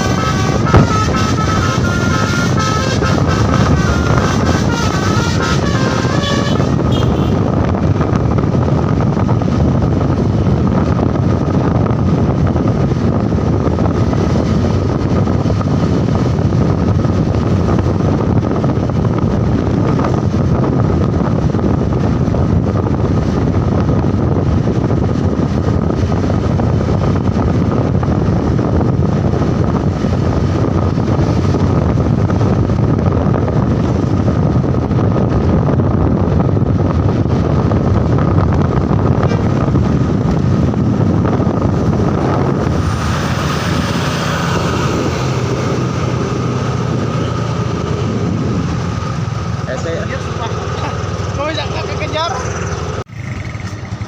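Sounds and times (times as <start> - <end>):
moving vehicle running: 0.0 - 54.0
wind rushing over microphone: 0.0 - 54.0.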